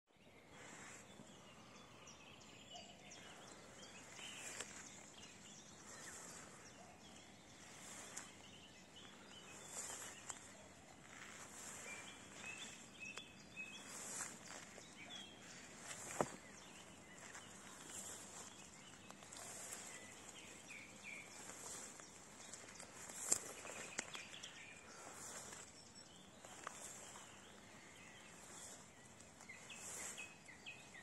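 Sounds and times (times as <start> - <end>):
faint bird chirps: 0.1 - 31.0
grass rustling under footsteps: 3.0 - 31.0.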